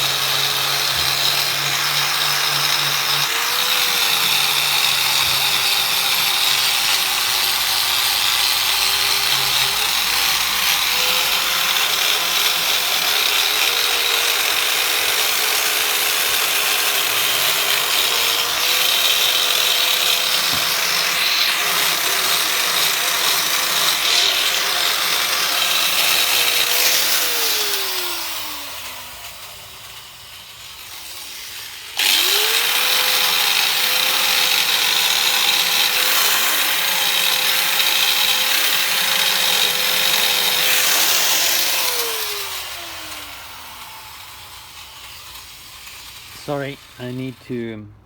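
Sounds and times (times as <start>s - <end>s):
grinding wheel hissing on metal: 0.0s - 14.5s, 16.4s - 34.2s, 37.8s - 47.6s
angle grinder motor whine: 0.0s - 47.4s.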